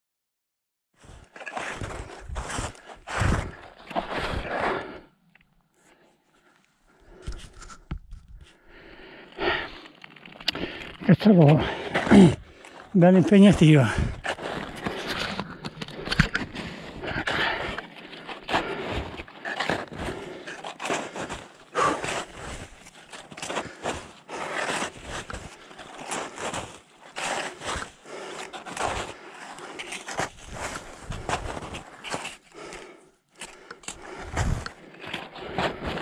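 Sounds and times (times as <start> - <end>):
scraping footsteps on trail: 1.0 - 5.0, 10.2 - 36.0.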